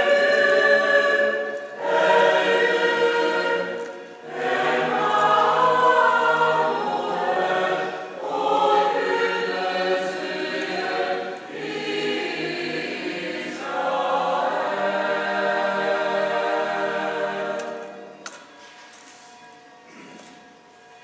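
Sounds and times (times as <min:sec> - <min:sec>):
choir singing: 0:00.0 - 0:18.6.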